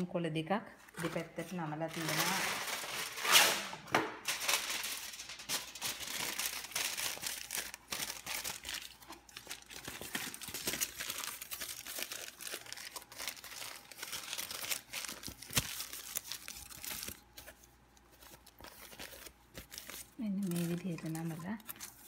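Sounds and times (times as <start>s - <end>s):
aluminium foil crinkling: 0.9s - 22.0s.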